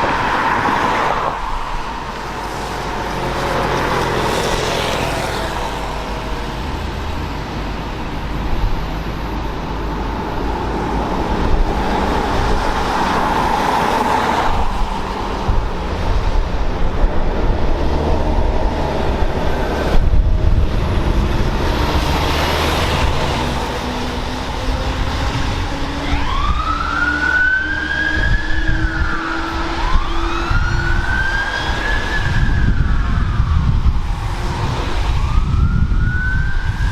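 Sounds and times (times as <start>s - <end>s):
fire engine siren wailing: 0.0s - 7.2s, 9.7s - 36.9s
traffic on wet road: 0.0s - 36.9s
truck engine pulling away: 1.6s - 36.8s.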